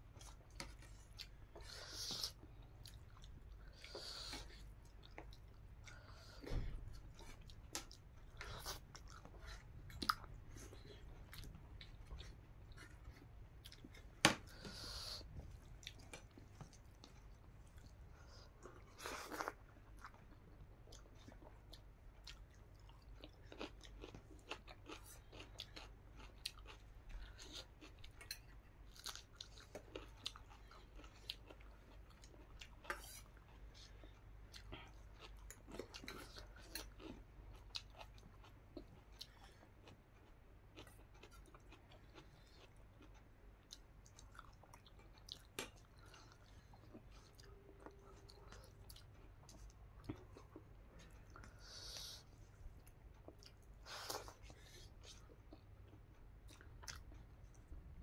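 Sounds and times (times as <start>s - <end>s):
chewing food: 0.1s - 57.9s.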